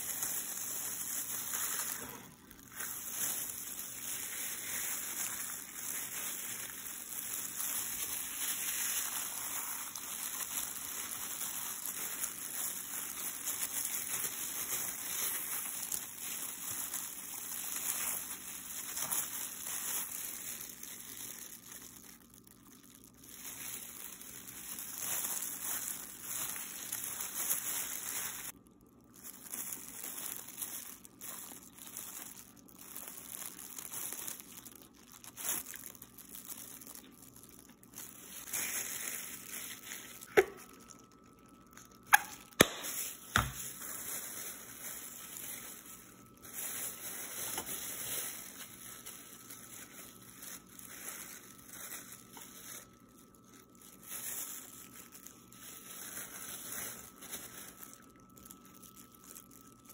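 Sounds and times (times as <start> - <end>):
plastic gloves rustling: 0.0 - 59.9.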